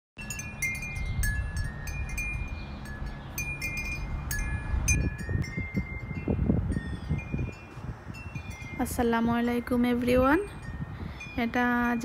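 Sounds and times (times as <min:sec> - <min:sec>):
wind chimes ringing: 0:00.2 - 0:12.0
wind rumble on microphone: 0:00.2 - 0:12.0.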